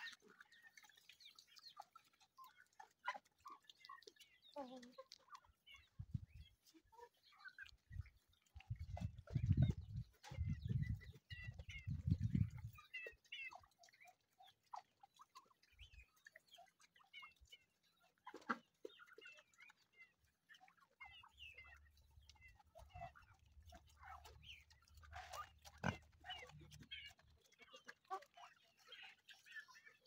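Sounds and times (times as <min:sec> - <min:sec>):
chickens chirping and clucking: 0:00.0 - 0:30.0
pig chewing and slurping: 0:00.0 - 0:30.0.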